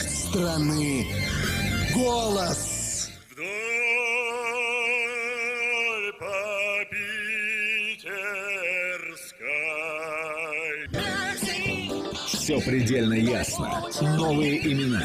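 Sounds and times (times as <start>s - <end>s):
man singing with vibrato: 2.0s - 15.0s.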